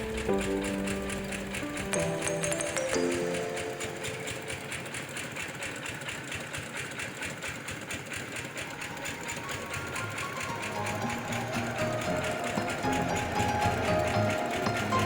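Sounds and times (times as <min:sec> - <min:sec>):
faint music: 0:00.0 - 0:05.9, 0:08.2 - 0:15.0
engine running with rapid pulse: 0:00.0 - 0:15.0.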